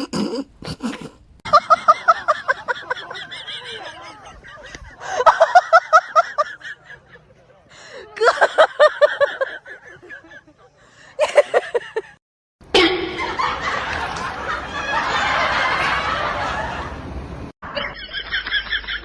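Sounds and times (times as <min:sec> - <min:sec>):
people laughing: 0:00.8 - 0:12.2, 0:12.8 - 0:19.0.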